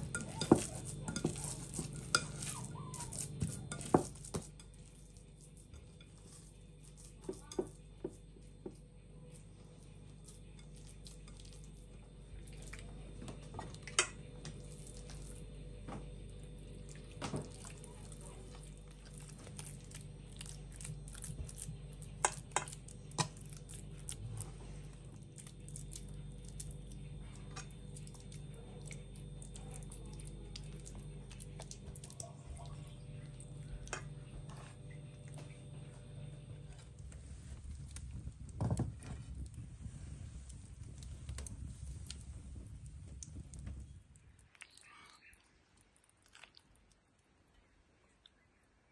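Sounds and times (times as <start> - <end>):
hands squelching and kneading filling: 0.0 - 47.2
steady low hum: 0.0 - 48.9.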